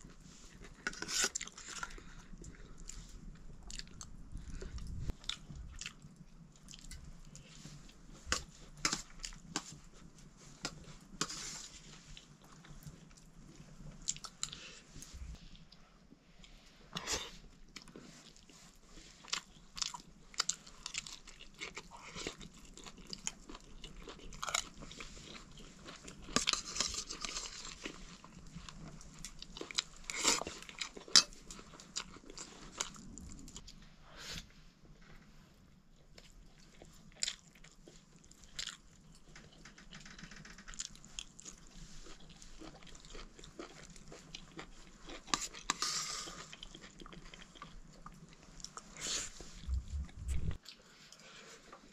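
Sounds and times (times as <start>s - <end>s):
chewing and crunching: 0.0s - 15.8s, 17.0s - 33.8s, 35.8s - 51.9s.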